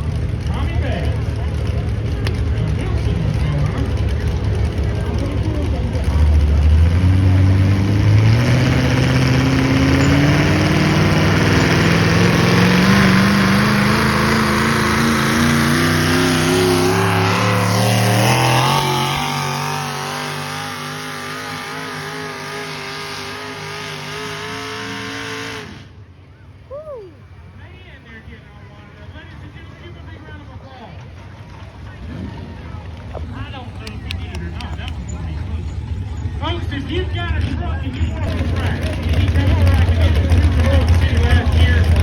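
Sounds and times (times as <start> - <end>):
vehicle engine under load: 0.0 - 42.0.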